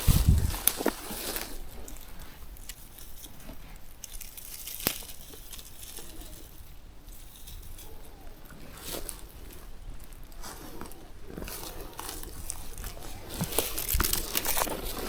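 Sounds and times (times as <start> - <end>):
rustling of dry vegetation: 0.0 - 15.0.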